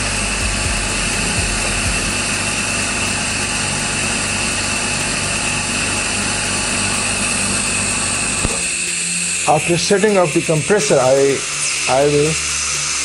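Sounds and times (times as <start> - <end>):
air compressor humming and whining: 0.0 - 13.0.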